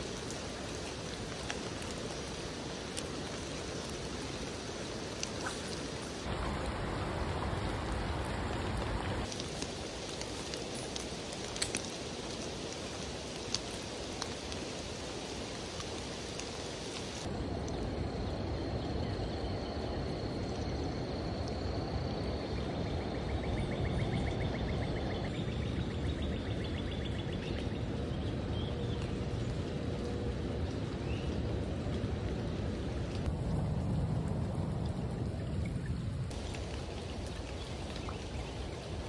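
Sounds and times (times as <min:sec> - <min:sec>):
rain on leaves and water: 0:00.0 - 0:39.0.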